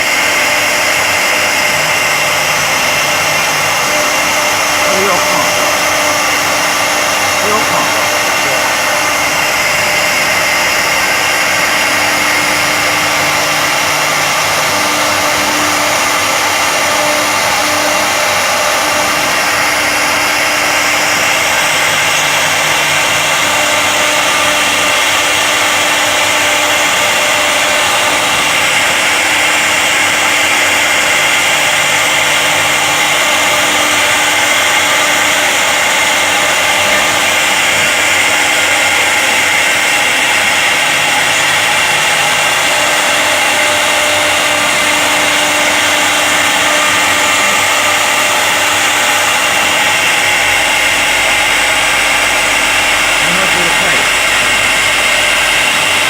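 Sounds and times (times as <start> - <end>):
router rushing noise: 0.0 - 56.0
wood router spindle whine: 0.0 - 56.0.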